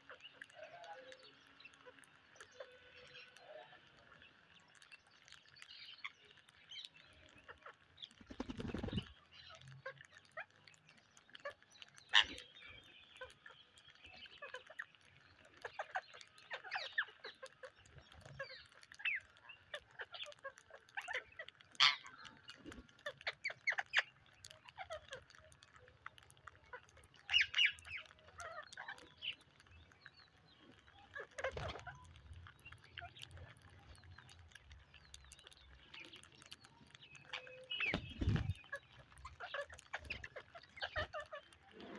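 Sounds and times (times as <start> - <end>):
beaks pecking at grains: 0.0 - 41.9
parakeets chirping and squawking: 5.6 - 41.9.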